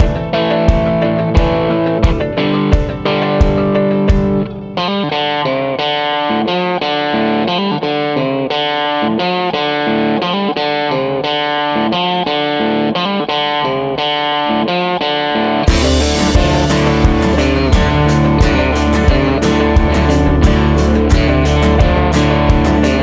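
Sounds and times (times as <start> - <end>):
guitar picking repeating notes: 0.0 - 23.0.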